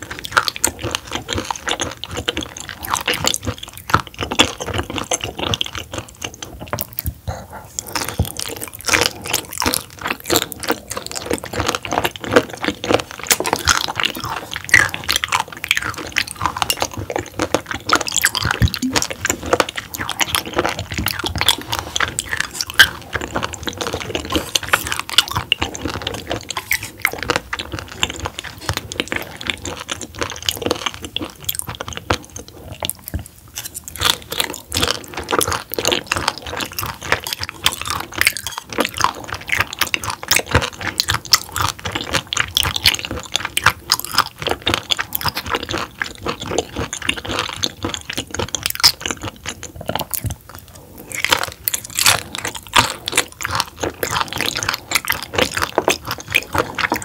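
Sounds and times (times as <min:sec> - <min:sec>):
person chewing raw fish: 0:00.0 - 0:57.0.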